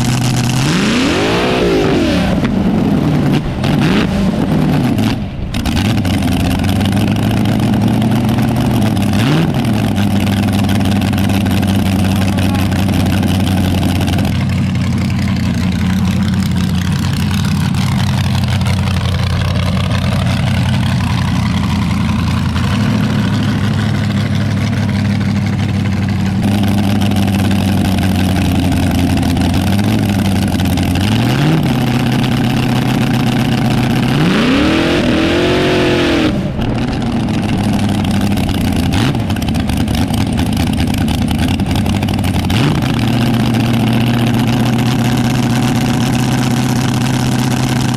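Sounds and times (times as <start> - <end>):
dragster engine idling: 0.0 - 0.8, 2.3 - 47.9.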